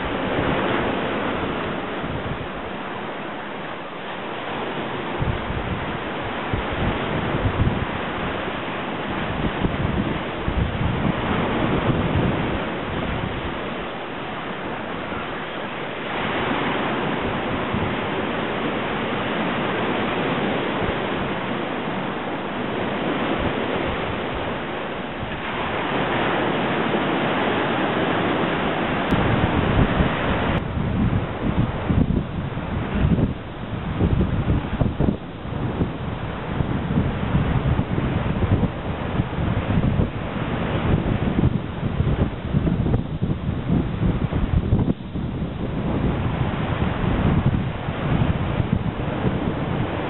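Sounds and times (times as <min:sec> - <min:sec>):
surf washing against rocks: 0:00.0 - 0:50.0
wind on microphone: 0:00.0 - 0:50.0.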